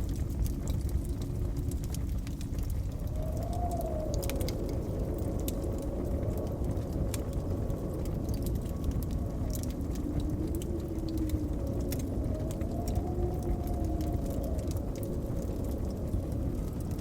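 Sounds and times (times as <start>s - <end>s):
howling blizzard wind: 0.0s - 17.0s
wood fire crackling and popping: 0.0s - 17.0s.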